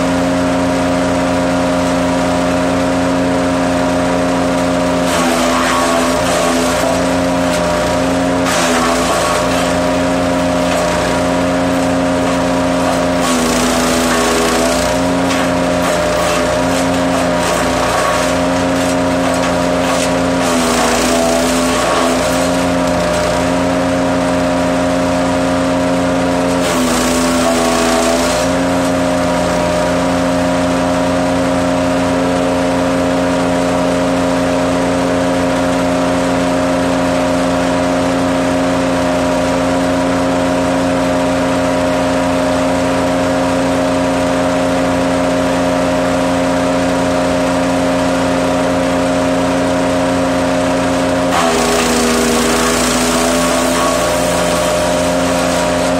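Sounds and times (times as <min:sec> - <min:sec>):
wood chipper engine running: 0:00.0 - 0:55.9.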